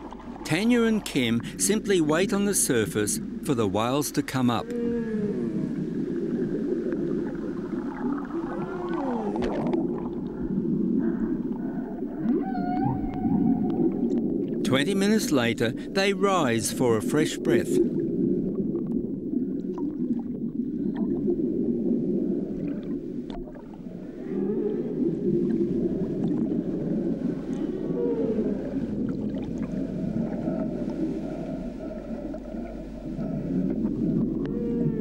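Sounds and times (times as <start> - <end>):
whale calls underwater: 0.0 - 35.0.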